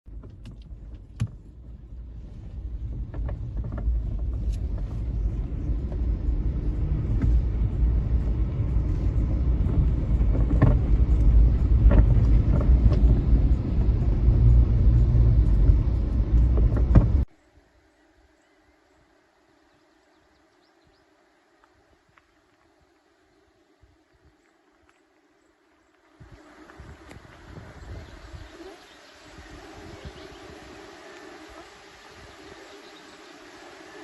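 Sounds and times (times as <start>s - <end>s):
low noisy rumble: 0.1s - 24.4s, 25.1s - 34.0s.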